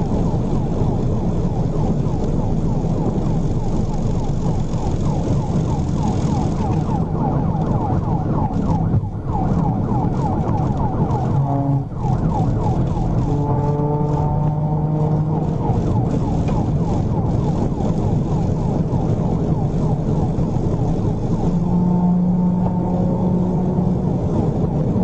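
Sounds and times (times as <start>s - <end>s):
engine and road noise: 0.0s - 25.0s
police siren yelping: 0.3s - 25.0s.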